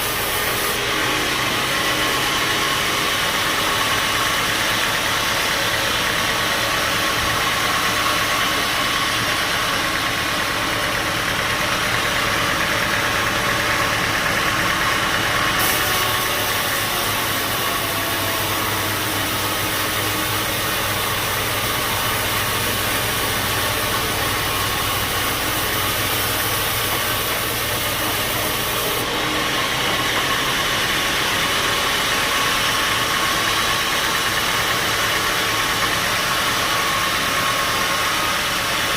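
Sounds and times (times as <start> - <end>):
bandsaw sawmill drone: 0.0 - 38.9.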